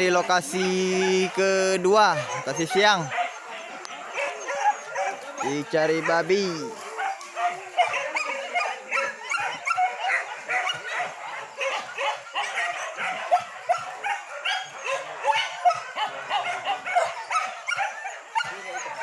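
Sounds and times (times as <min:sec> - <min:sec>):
dogs barking and yelping: 0:00.0 - 0:19.0.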